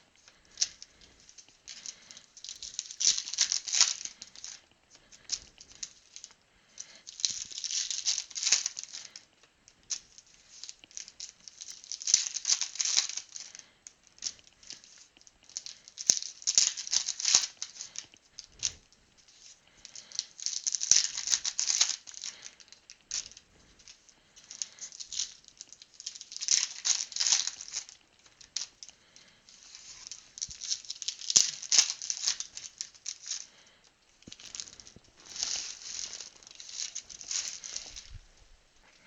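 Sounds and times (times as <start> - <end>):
card wrappers crinkling: 0.0 - 39.0.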